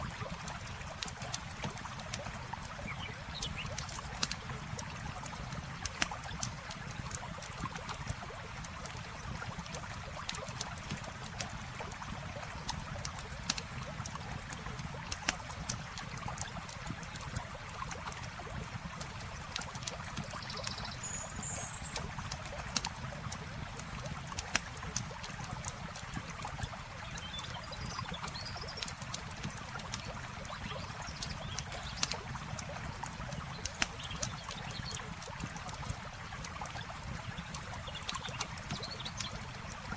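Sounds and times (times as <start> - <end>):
campfire crackling and popping: 0.0 - 20.7, 21.9 - 39.9
river water flowing: 0.0 - 39.9.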